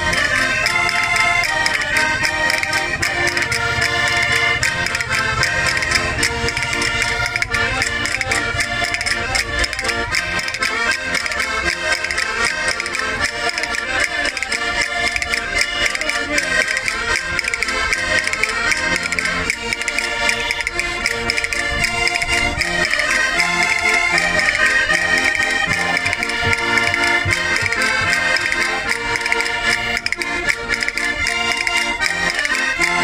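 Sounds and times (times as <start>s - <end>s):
button accordions playing a folk tune: 0.0s - 33.0s
steady beat: 0.0s - 33.0s.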